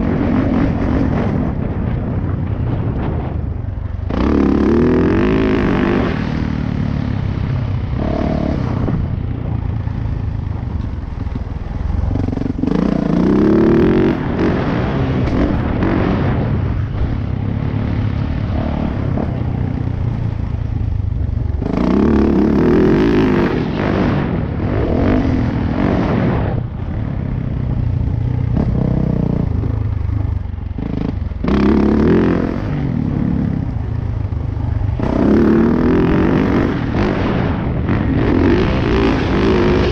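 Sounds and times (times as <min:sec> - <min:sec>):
motorcycle engine revving hard: 0:00.0 - 0:39.9.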